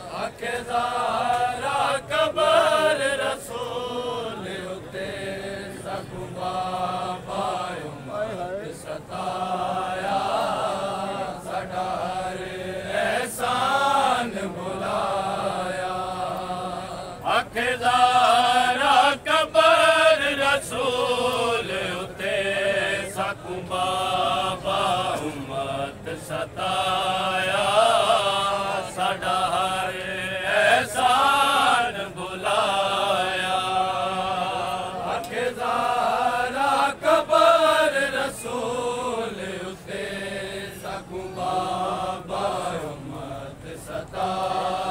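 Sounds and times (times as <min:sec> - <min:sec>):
men chanting a lament: 0:00.0 - 0:44.9.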